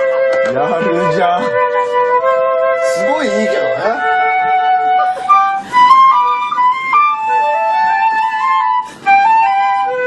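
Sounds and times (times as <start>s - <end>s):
gentle classical instrumental duo: 0.0s - 10.0s.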